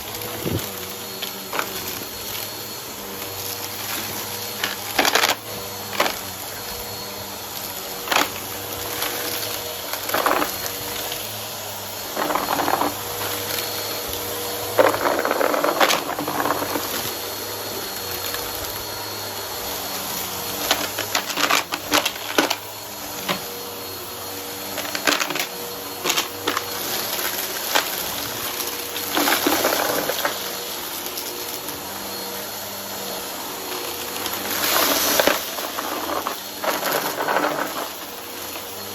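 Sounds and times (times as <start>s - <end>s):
vacuum cleaner motor humming: 0.0s - 38.9s.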